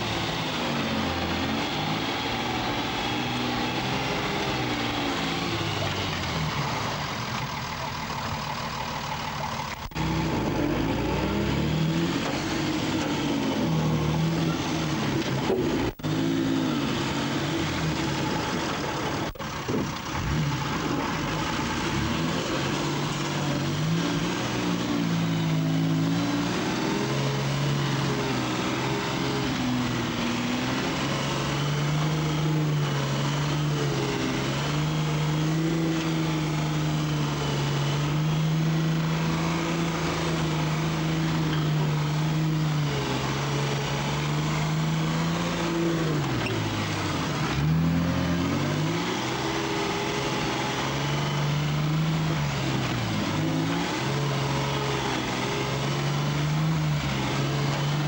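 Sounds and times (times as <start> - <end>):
diesel truck engine straining: 0.0 - 58.0.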